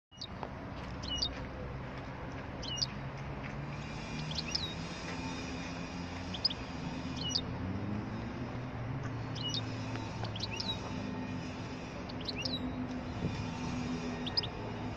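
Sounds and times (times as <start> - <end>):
city traffic rumble: 0.1 - 14.9
songbirds chirping: 0.1 - 14.9.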